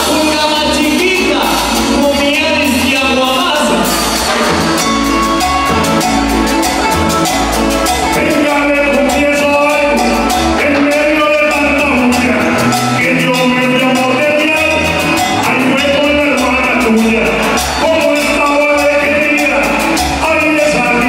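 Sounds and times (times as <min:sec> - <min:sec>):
man singing: 0:00.0 - 0:04.6, 0:08.0 - 0:21.0
acoustic guitars strumming: 0:00.0 - 0:21.0.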